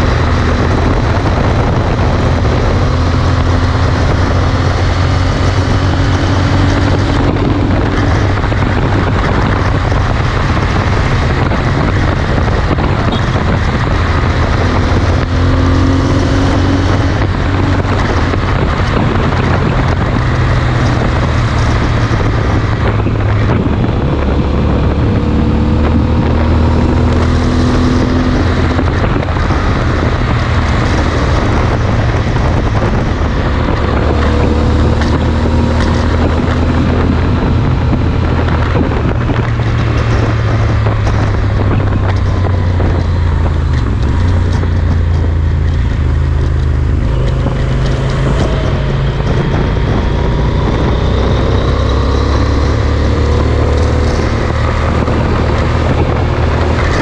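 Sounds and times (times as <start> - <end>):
motorcycle engine droning: 0.0 - 57.0
wind rushing over microphone: 0.0 - 57.0.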